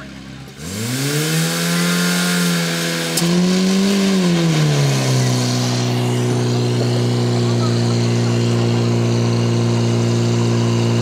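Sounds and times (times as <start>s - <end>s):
pump engine running: 0.0s - 11.0s.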